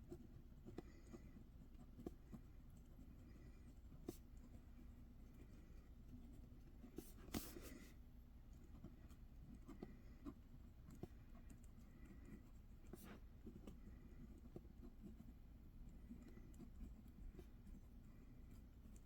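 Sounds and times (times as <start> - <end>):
handwriting scratching on paper: 0.0 - 19.0.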